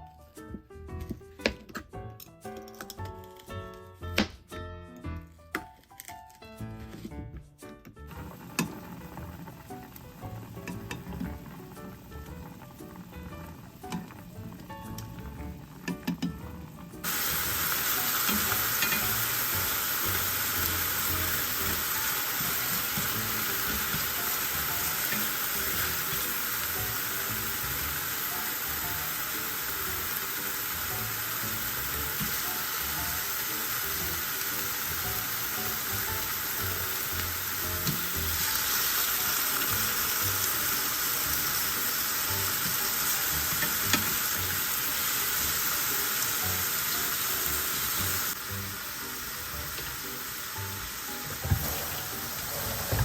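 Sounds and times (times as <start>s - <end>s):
food sizzling in a pan: 8.1s - 53.0s.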